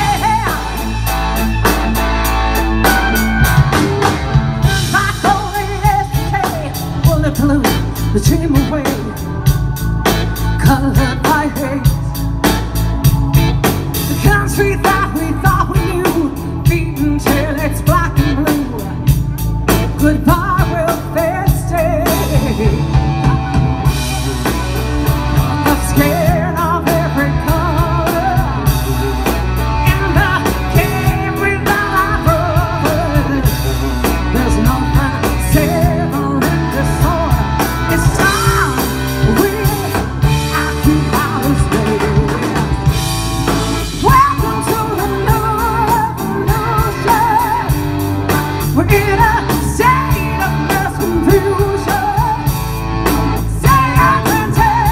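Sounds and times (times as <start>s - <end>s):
woman singing: 0.0s - 1.1s, 4.6s - 9.7s, 10.3s - 12.2s, 14.1s - 43.0s, 43.8s - 52.6s, 53.2s - 54.9s
live blues-rock band: 0.0s - 54.9s.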